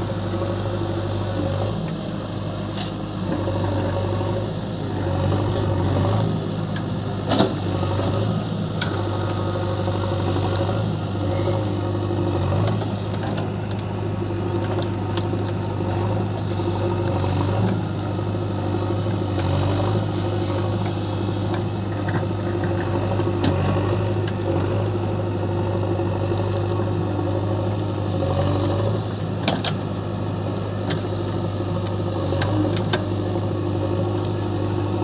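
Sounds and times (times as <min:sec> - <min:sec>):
diesel digger engine running: 0:00.0 - 0:35.0.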